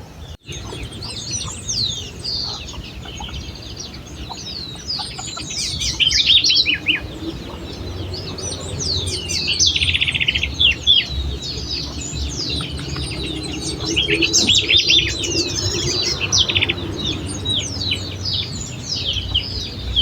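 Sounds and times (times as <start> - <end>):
birds chirping and whistling: 0.4 - 20.0.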